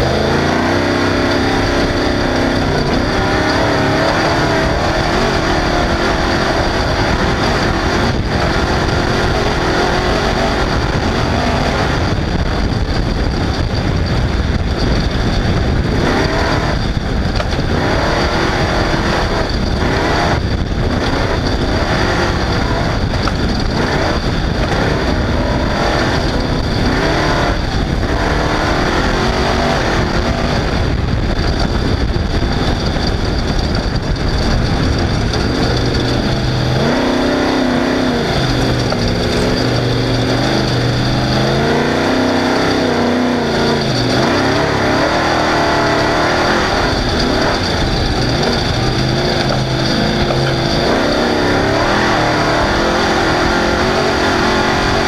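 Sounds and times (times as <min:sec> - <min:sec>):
race vehicle engine revving: 0:00.0 - 0:55.0.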